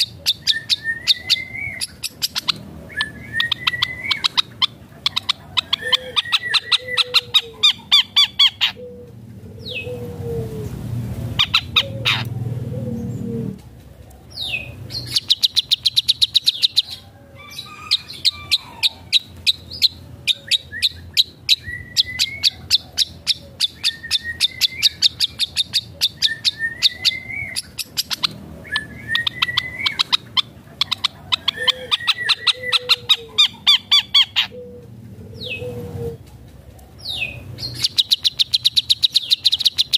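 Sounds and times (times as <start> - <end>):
shrike singing: 0.0 - 10.3, 14.4 - 36.2.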